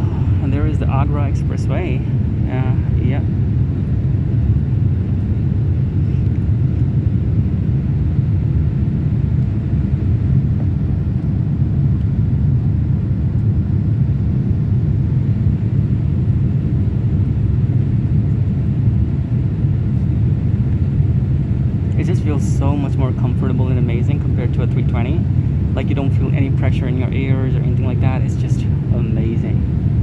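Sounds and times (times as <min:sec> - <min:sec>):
aircraft cabin engine rumble: 0:00.0 - 0:30.0.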